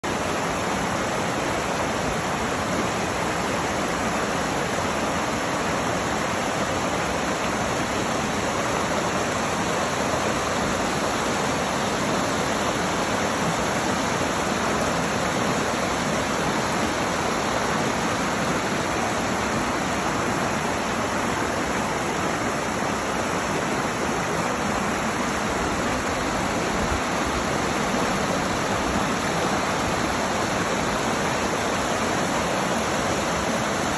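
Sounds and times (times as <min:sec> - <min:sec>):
creek rushing over boulders: 0:00.0 - 0:33.9.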